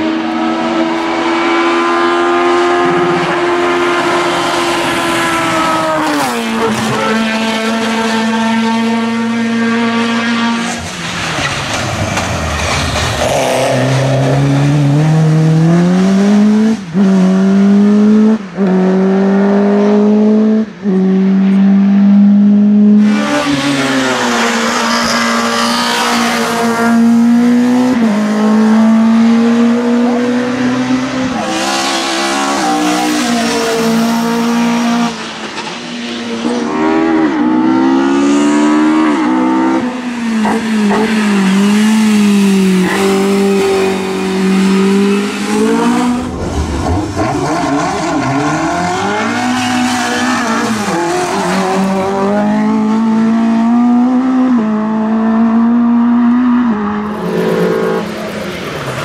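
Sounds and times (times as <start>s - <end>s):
racing car engines revving: 0.0s - 59.0s.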